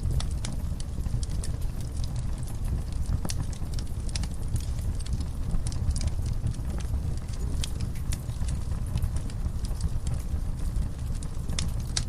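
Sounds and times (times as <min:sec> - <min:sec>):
fire crackling and popping: 0:00.0 - 0:12.0
low rumble of flames: 0:00.0 - 0:12.0.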